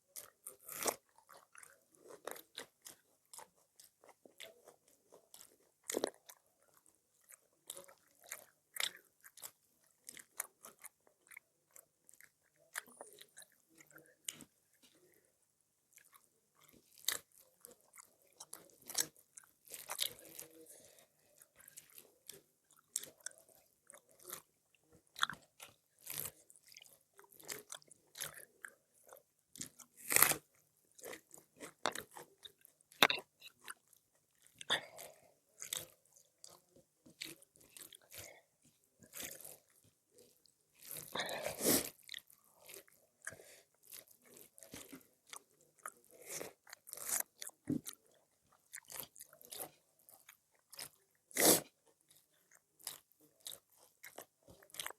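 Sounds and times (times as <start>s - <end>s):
person chewing food: 0.0s - 54.9s
food crunching: 0.1s - 15.3s, 15.9s - 54.9s.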